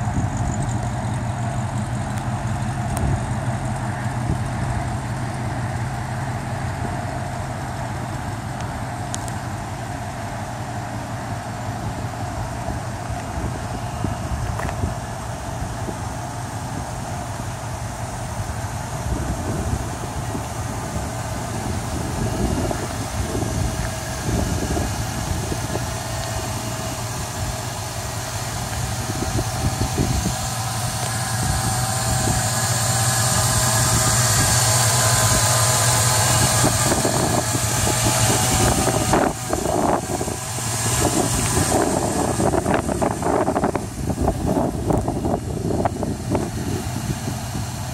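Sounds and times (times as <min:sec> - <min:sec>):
fan and belts hissing: 0:00.0 - 0:47.9
truck engine idling: 0:00.0 - 0:47.9.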